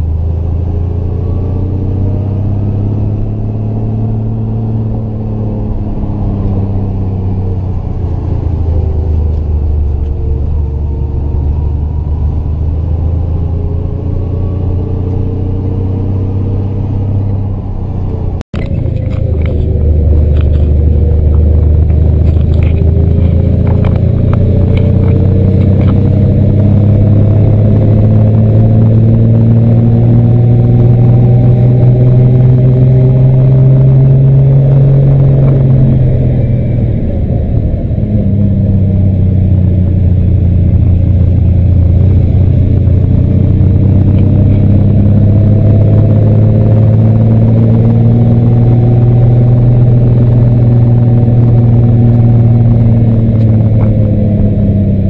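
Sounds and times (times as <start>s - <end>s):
car engine pulling uphill: 0.0s - 55.0s.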